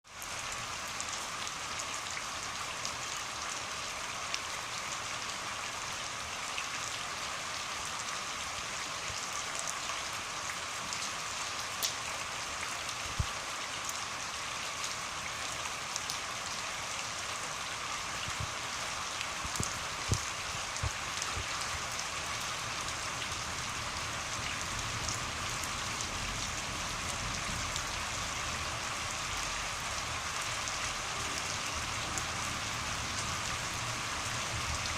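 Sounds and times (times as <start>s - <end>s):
rain hissing on surfaces: 0.0s - 34.9s.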